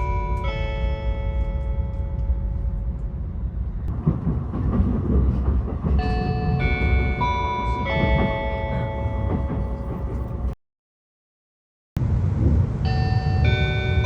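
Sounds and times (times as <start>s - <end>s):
train cabin rumble: 0.0s - 10.6s, 12.0s - 14.0s.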